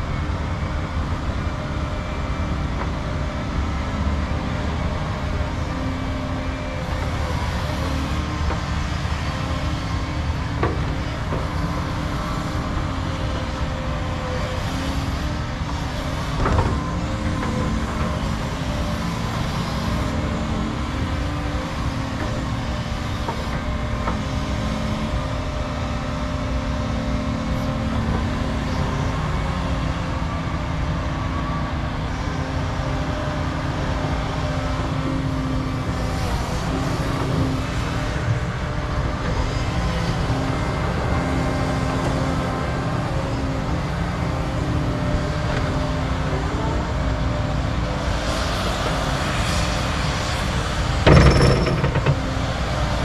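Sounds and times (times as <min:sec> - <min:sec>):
excavator diesel engines running: 0:00.0 - 0:53.0.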